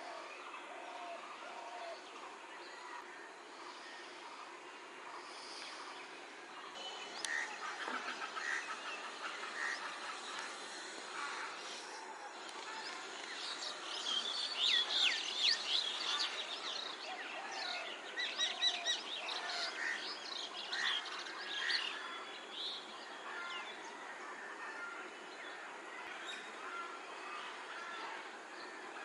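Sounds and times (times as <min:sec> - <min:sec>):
background hiss: 0:00.0 - 0:29.0.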